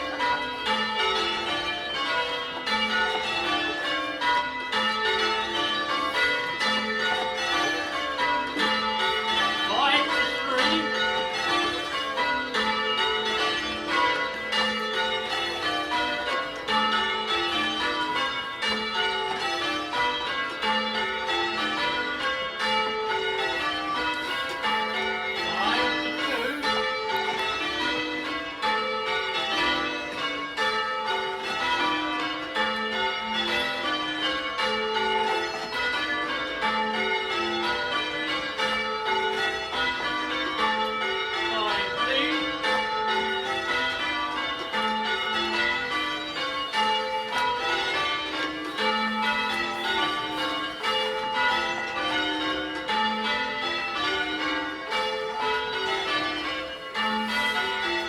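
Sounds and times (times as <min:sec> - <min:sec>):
church bells ringing in changes: 0:00.0 - 0:58.0.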